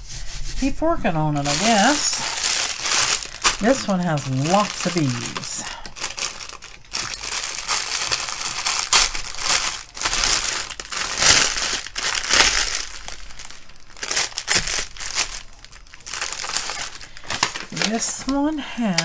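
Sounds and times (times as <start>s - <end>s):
plastic wrapping crinkling: 1.3s - 19.0s.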